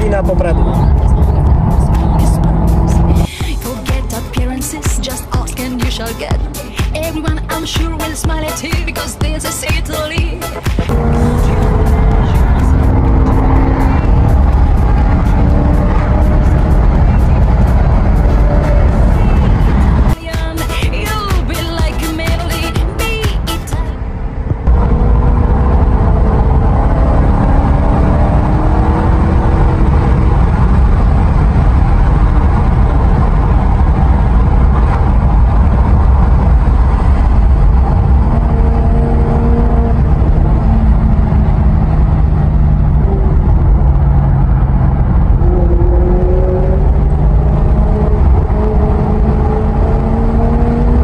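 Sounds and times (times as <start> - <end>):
car engine and tyre drone in cabin: 0.0 - 51.0.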